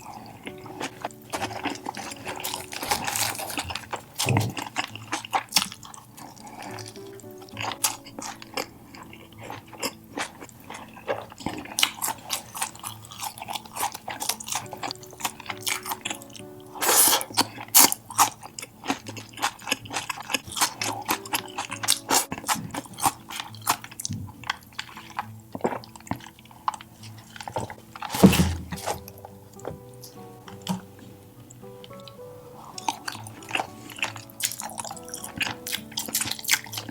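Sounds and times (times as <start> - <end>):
chewing and crunching food: 0.0 - 36.9
light background music: 0.0 - 36.9.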